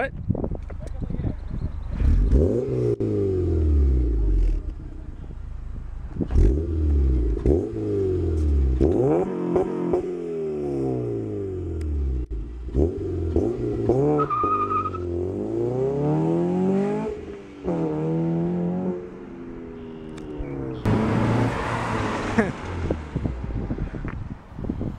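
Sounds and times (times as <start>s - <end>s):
car engine revving: 1.9s - 23.7s.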